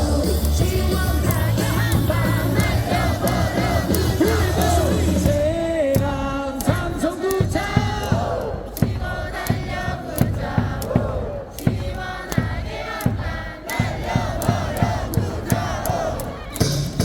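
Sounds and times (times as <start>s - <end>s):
crowd chanting in unison: 0.0s - 5.6s, 6.6s - 17.0s
amplified stadium music: 0.0s - 17.0s
steady thumping beat: 0.0s - 17.0s.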